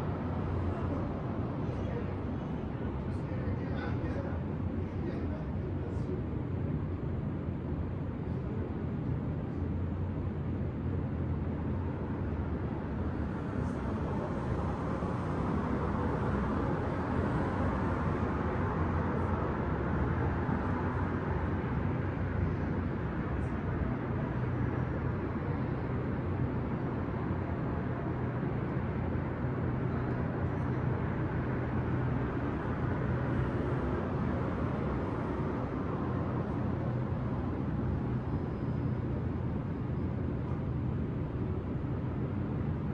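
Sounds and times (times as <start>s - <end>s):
distant city traffic rumble: 0.0s - 42.9s.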